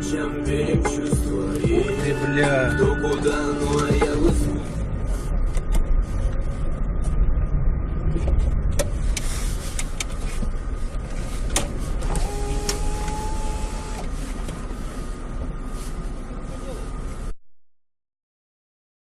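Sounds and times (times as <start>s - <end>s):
car driving rumble: 0.0s - 17.4s.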